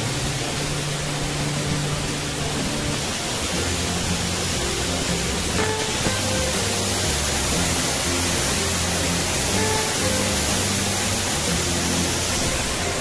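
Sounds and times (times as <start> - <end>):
background music with low notes: 0.0 - 13.0
waterfall rushing: 0.0 - 13.0.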